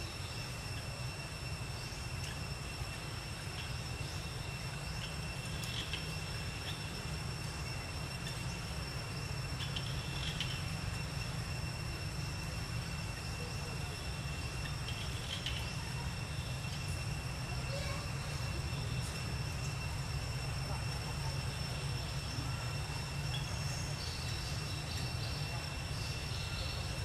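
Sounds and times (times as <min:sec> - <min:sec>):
faint chirps: 0:00.0 - 0:27.0
high insect drone: 0:00.0 - 0:27.0.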